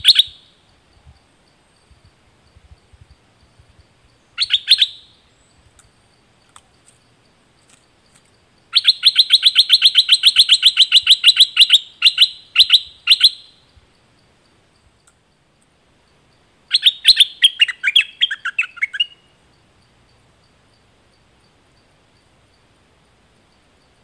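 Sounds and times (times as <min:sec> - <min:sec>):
bird singing chirps: 0:00.0 - 0:24.0.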